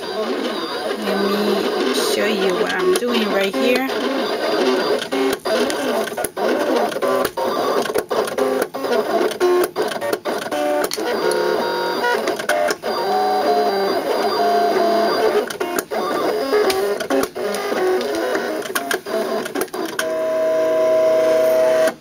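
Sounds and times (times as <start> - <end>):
stepper motors whining: 0.0 - 21.9.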